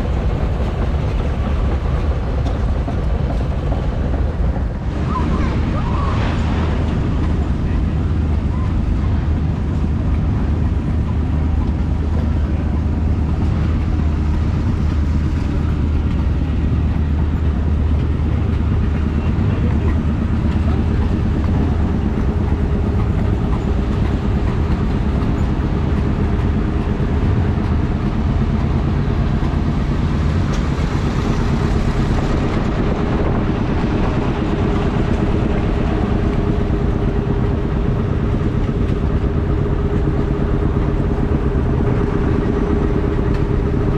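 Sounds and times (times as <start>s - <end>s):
higher steady hum: 0.0s - 43.9s.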